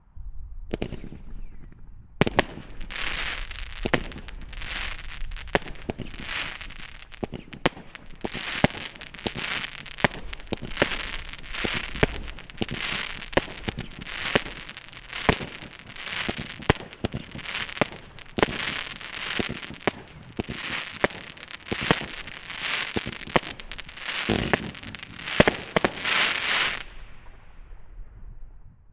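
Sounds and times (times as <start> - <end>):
firework bangs: 0.6 - 28.6
firework crackling: 0.7 - 28.0.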